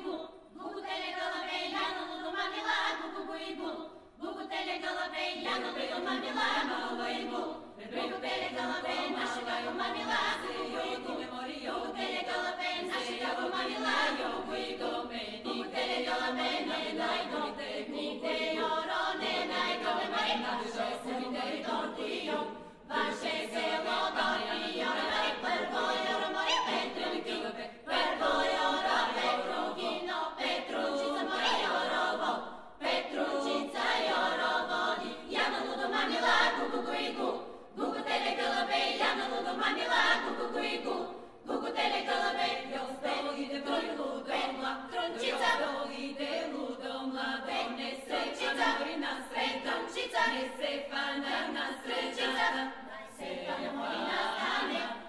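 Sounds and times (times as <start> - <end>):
a cappella choir singing: 0.0 - 55.0.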